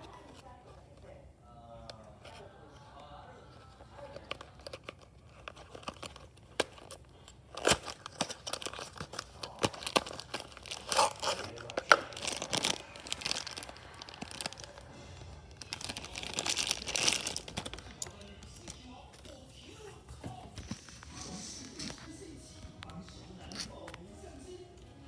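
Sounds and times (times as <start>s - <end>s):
crinkling and tearing: 3.6s - 24.6s.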